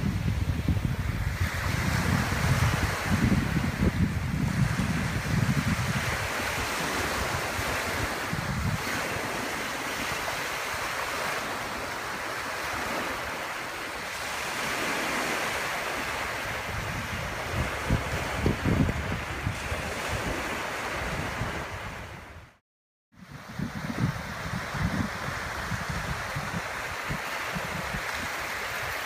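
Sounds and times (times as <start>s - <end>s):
small waves on sandy beach: 0.0s - 22.6s, 23.2s - 29.0s
wind buffeting microphone: 0.0s - 22.6s, 23.2s - 29.0s.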